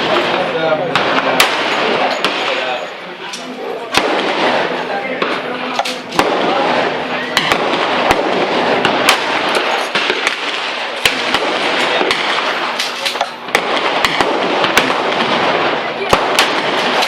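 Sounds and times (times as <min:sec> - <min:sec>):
gunshots: 0:00.0 - 0:02.9, 0:03.8 - 0:17.0
steady background rush: 0:00.0 - 0:17.0.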